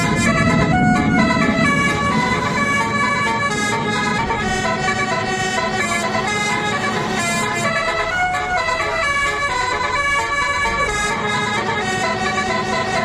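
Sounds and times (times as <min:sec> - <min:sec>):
steady low hum: 0:00.0 - 0:12.8
multi-tone bus horn playing a tune: 0:00.0 - 0:13.0.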